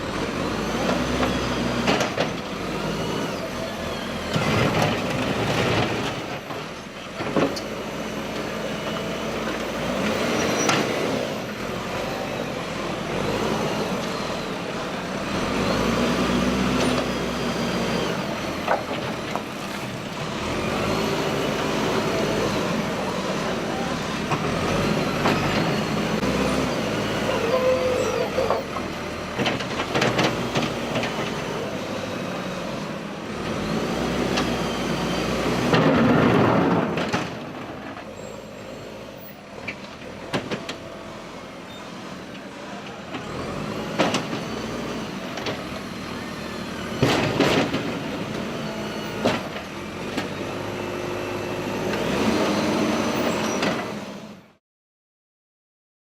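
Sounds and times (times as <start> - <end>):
diesel engine running: 0.0 - 54.4.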